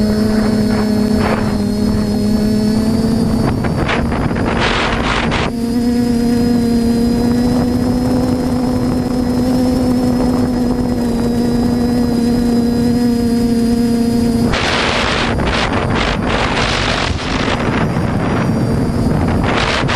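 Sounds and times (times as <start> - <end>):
drone propellers humming: 0.0 - 19.9.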